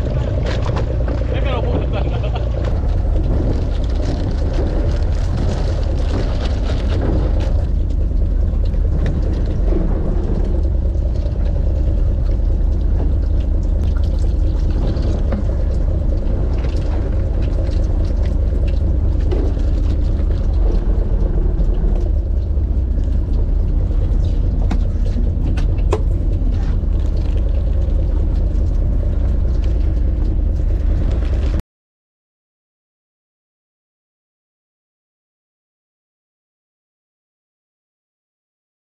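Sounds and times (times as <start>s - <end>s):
boat engine rumble: 0.0s - 31.6s
wind drone: 0.0s - 31.6s.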